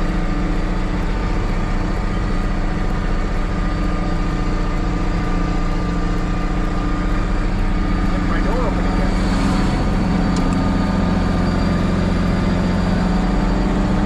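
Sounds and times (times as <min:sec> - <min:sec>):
thin steady whine: 0:00.0 - 0:14.0
tractor diesel engine running: 0:00.0 - 0:14.0.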